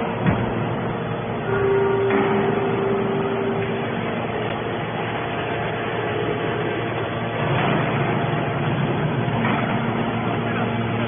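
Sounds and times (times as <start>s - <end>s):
hydraulic machine drone: 0.0s - 11.0s.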